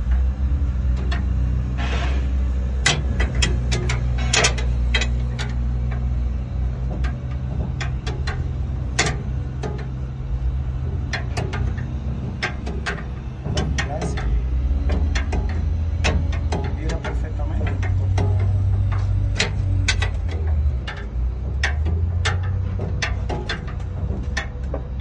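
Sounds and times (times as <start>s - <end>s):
generator engine humming: 0.0s - 25.0s
sharp clicks and ticks: 2.7s - 25.0s.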